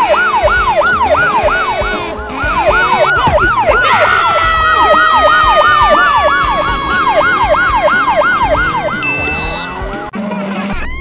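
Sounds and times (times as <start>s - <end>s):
falling steady siren tone: 0.0s - 9.0s
police siren yelp: 0.0s - 9.8s.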